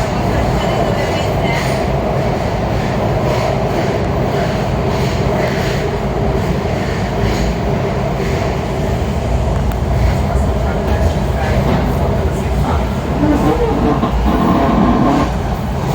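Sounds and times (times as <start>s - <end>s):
subway car rumble and rail noise: 0.0s - 15.9s.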